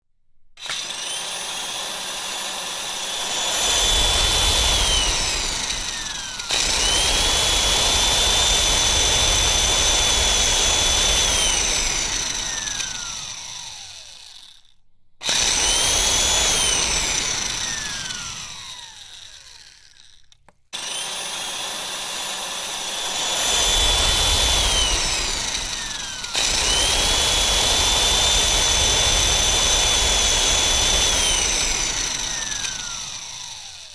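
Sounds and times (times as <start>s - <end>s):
electric mixer motor whining: 0.6s - 33.9s.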